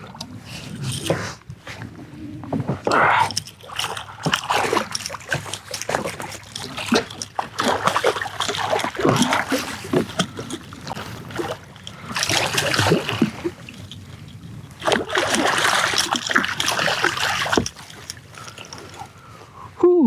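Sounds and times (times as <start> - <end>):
fish thrashing water splashing: 2.8 - 19.3.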